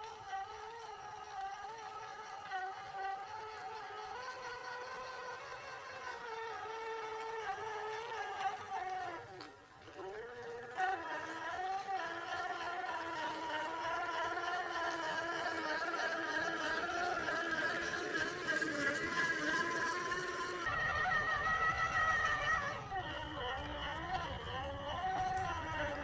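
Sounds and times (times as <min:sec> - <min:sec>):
electric motor and gear whine: 0:00.0 - 0:26.0.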